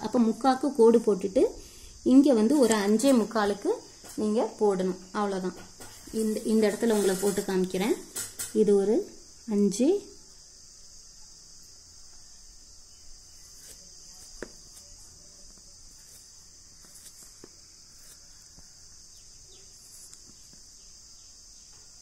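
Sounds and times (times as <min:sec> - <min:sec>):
high-pitched insect chirring: 0:01.9 - 0:22.0.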